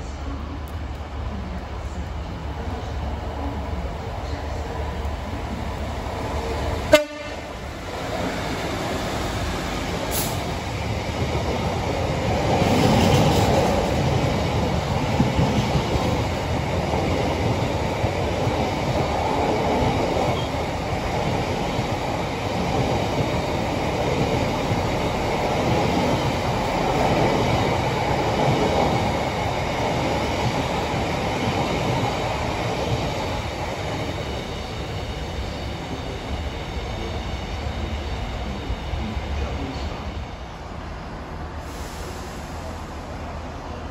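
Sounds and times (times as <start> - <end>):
freight train rumbling on rails: 0.0 - 43.9.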